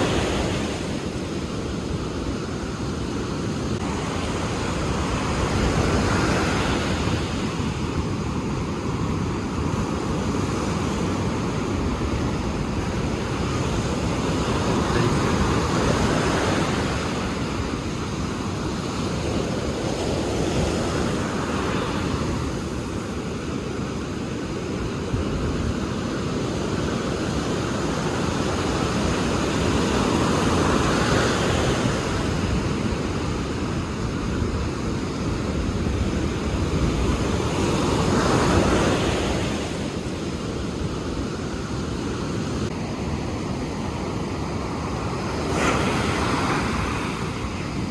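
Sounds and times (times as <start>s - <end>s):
waves breaking: 0.0s - 47.9s
wind on microphone: 0.0s - 47.9s.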